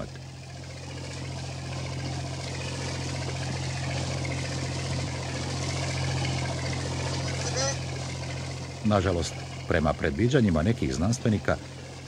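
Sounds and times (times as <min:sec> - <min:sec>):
boat engine drone: 0:00.0 - 0:12.0
wind: 0:00.0 - 0:12.0.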